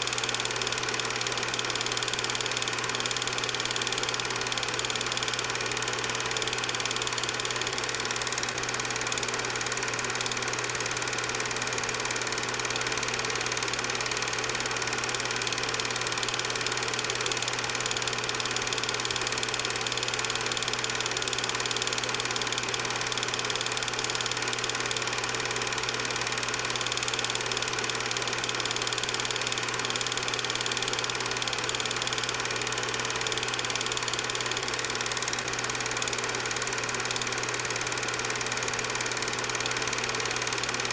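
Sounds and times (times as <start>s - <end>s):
film projector humming: 0.0s - 40.9s.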